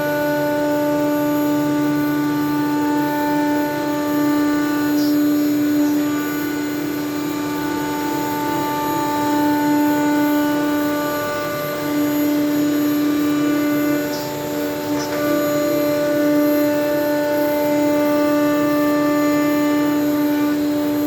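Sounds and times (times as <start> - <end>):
router spindle high whine: 0.0 - 21.0
router bit cutting: 1.9 - 21.0.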